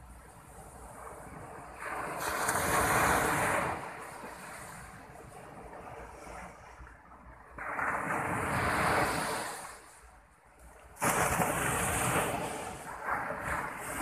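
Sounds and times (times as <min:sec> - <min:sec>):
sea surf breaking on sand: 0:00.9 - 0:06.8, 0:07.6 - 0:10.2, 0:10.8 - 0:14.0.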